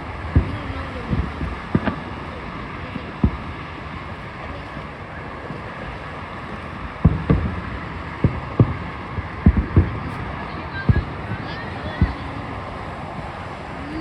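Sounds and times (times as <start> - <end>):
fireworks booming: 0.0 - 14.0
rushing wind noise: 0.0 - 14.0.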